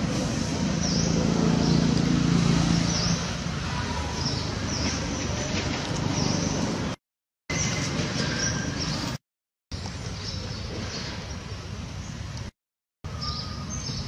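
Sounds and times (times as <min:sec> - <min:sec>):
low traffic rumble: 0:00.0 - 0:12.5.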